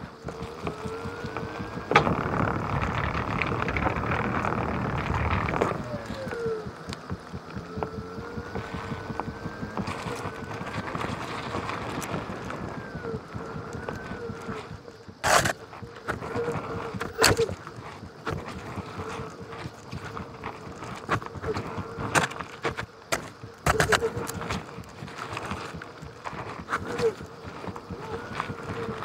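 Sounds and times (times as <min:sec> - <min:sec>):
hub motor whining: 0:00.0 - 0:29.0
tyre rumble: 0:00.0 - 0:29.0.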